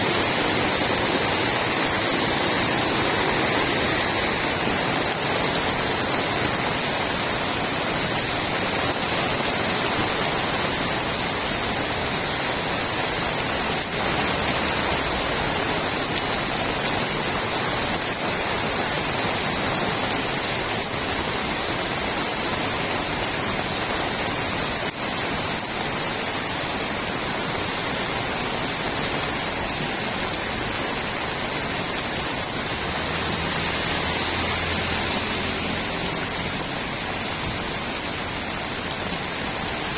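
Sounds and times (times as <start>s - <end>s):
rain falling on a street: 0.0s - 39.9s
runoff water gurgling: 0.0s - 39.9s.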